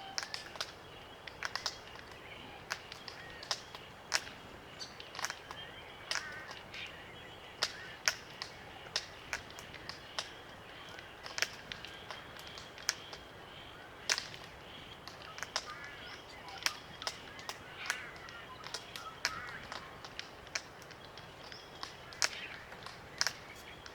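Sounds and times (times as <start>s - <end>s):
soft creaky bird calls: 0.0s - 23.9s.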